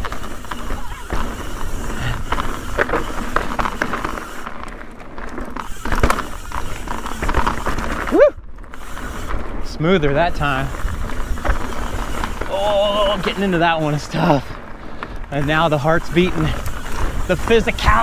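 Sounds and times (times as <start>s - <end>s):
bike knocks and rattles: 0.0s - 18.0s
bike tyres on dirt and leaves: 0.0s - 18.0s.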